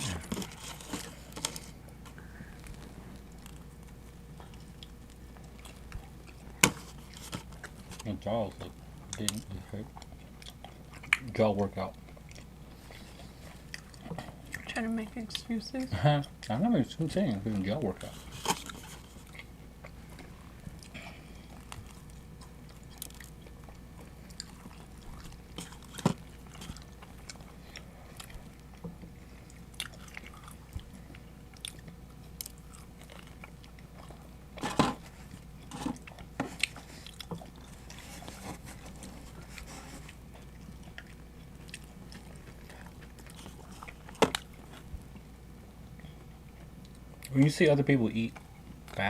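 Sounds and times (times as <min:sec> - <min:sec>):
chewing pizza: 0:00.0 - 0:49.0
low room hum: 0:00.0 - 0:49.0.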